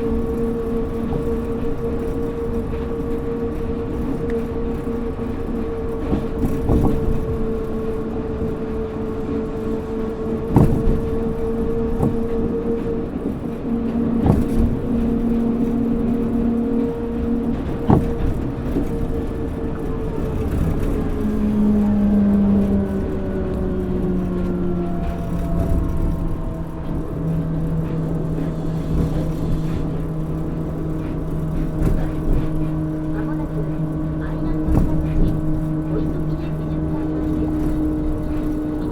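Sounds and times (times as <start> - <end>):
low rumble: 0.0 - 38.9
train motor whine: 0.0 - 38.9.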